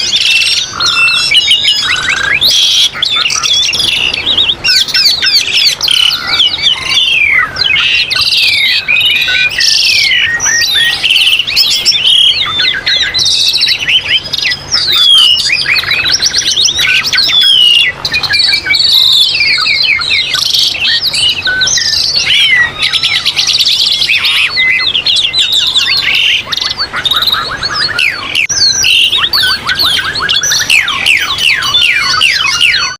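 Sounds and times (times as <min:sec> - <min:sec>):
chorus of songbirds: 0:00.0 - 0:32.9.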